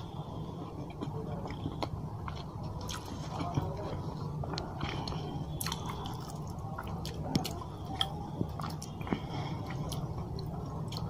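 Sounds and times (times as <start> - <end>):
chewing and mouth smacking: 0.0 - 11.0
steady low hum: 0.0 - 11.0.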